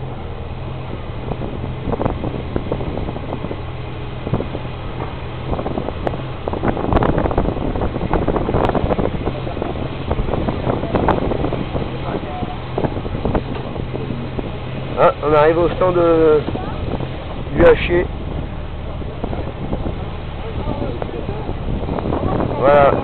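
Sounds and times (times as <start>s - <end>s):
car engine at low revs: 0.0s - 23.0s
wind buffeting microphone: 0.0s - 23.0s.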